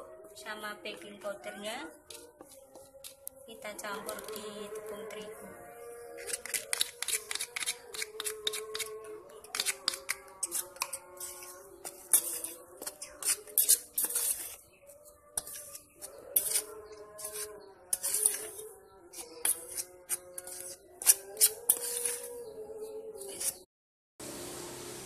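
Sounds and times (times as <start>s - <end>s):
metal spoon scraping a steel pot: 1.0s - 23.7s.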